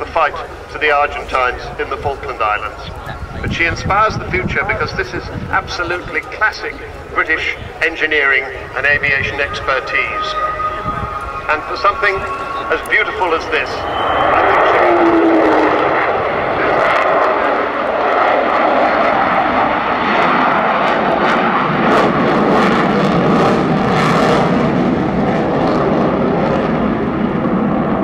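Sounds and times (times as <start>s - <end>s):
jet aircraft flying overhead: 0.0s - 28.0s.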